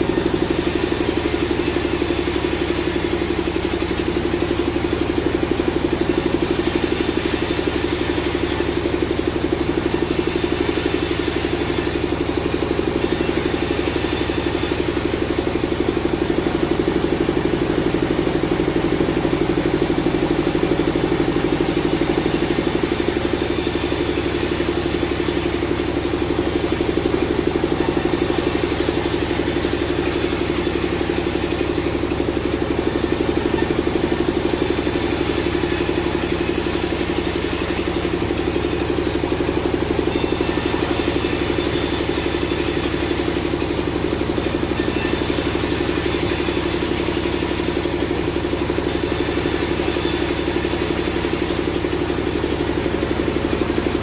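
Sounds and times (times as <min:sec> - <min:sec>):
sawmill engine pulsing: 0:00.0 - 0:54.0.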